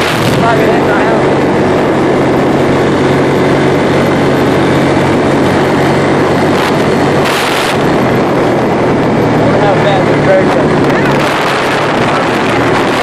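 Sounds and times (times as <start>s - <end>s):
atv engine running: 0.0s - 13.0s
tyres on gravel road: 0.0s - 13.0s.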